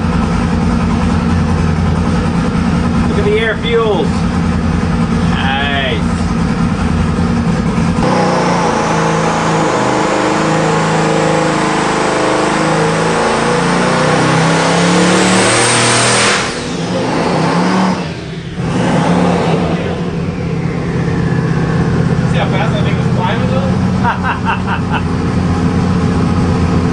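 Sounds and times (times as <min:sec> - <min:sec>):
engine revving at full throttle: 0:00.0 - 0:26.9
high whine rising in pitch: 0:00.0 - 0:26.9.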